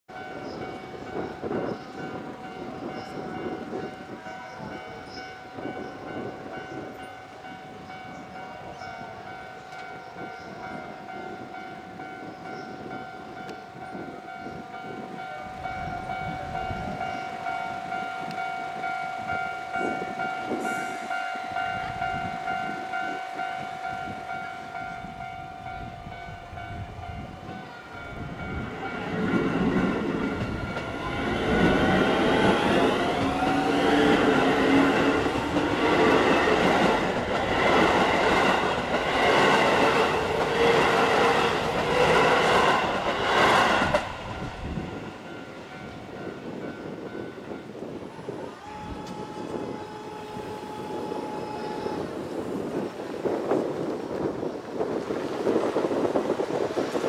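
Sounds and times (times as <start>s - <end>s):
level-crossing warning bell ringing: 0.1s - 52.8s
electric train rumble: 0.1s - 57.0s.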